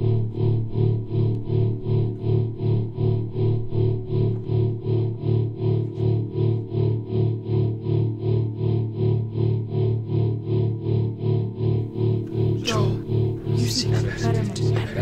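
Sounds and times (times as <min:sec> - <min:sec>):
low pulsing tone: 0:00.0 - 0:15.0.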